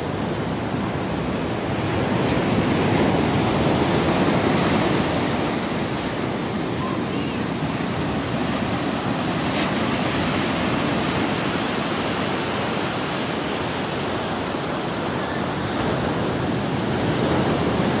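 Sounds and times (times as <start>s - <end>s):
ocean surf breaking: 0.0s - 18.0s.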